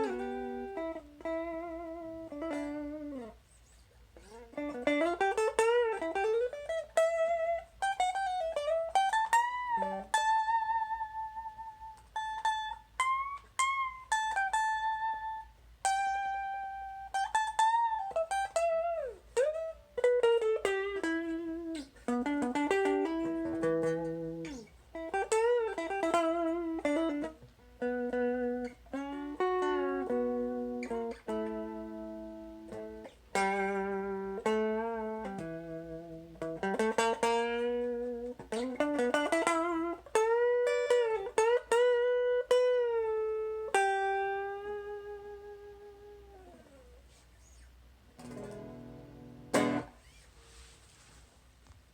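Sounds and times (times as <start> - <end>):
electric guitar: 0.0 - 3.4, 4.2 - 50.2.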